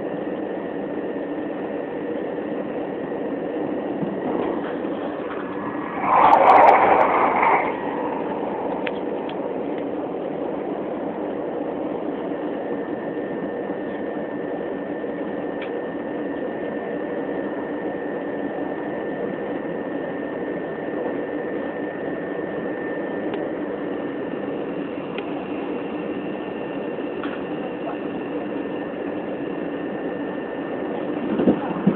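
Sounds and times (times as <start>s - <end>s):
faint steady whine: 0.0s - 31.9s.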